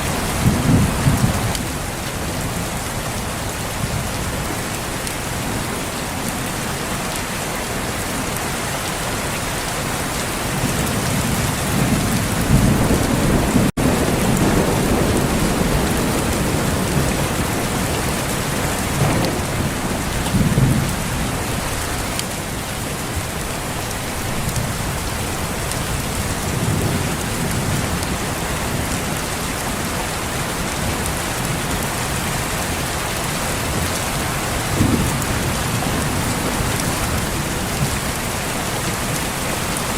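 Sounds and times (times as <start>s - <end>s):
thunder rumbling: 0.0s - 4.6s, 10.5s - 39.8s
steady rain: 0.0s - 39.9s.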